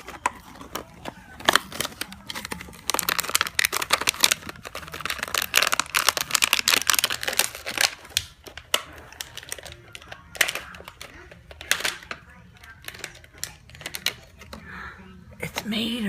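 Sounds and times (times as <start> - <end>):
plastic packaging being torn open: 0.0 - 14.6.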